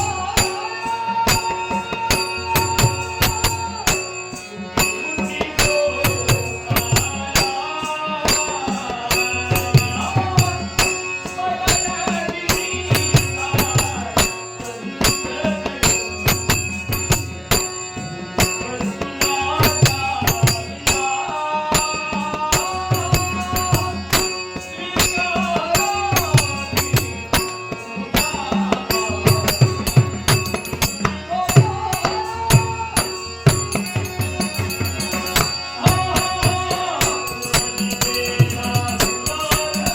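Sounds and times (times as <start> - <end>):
jingling metal percussion: 0.0 - 39.9
person singing: 0.0 - 39.9.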